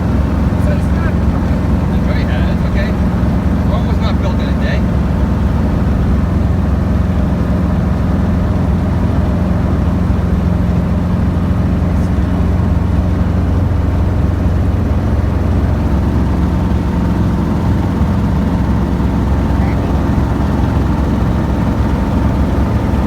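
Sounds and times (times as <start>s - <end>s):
helicopter engine and rotor drone: 0.0s - 23.0s.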